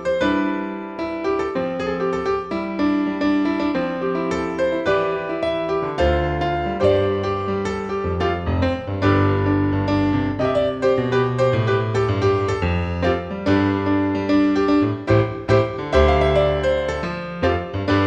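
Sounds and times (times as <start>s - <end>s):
piano playing: 0.0s - 18.0s.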